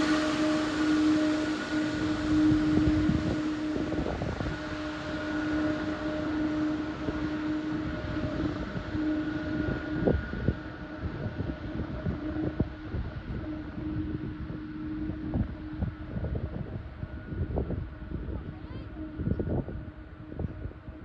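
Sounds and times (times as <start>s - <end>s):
jet engines running: 0.0s - 21.0s
wind buffeting microphone: 0.0s - 21.0s.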